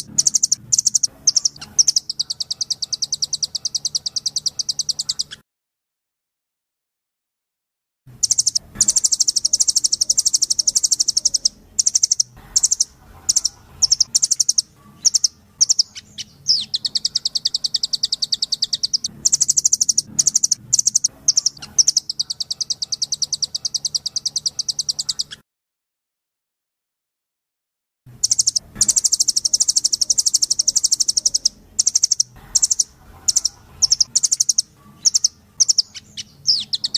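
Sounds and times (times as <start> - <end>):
bird rattling trills: 0.0 - 5.4, 8.2 - 25.4, 28.2 - 36.9.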